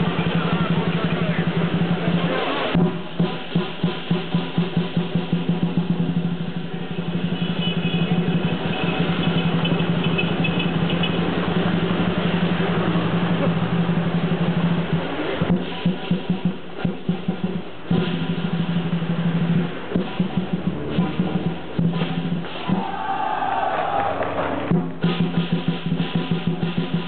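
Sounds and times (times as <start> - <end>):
cymbals: 0.0 - 27.0
large drum beating: 0.0 - 27.0.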